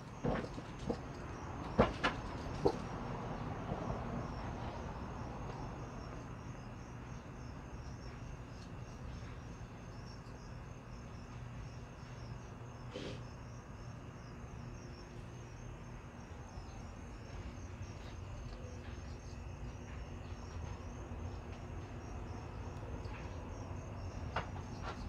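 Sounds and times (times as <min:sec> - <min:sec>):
crickets chirping: 0:00.0 - 0:25.0
low background hum: 0:00.0 - 0:25.0.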